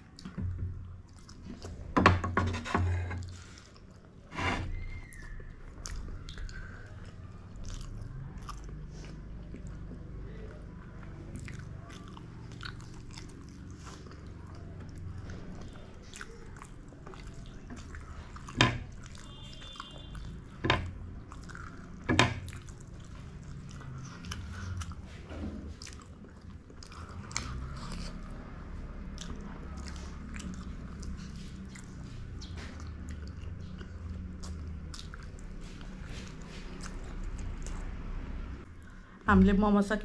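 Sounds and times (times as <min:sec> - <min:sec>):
people chewing with wet smacking: 0:00.0 - 0:02.1, 0:03.2 - 0:39.2.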